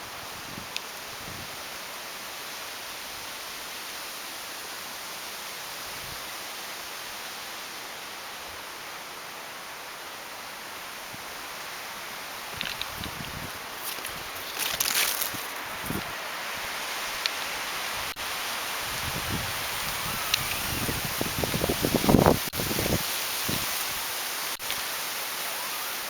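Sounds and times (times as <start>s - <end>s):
wind rushing through trees: 0.0s - 26.0s.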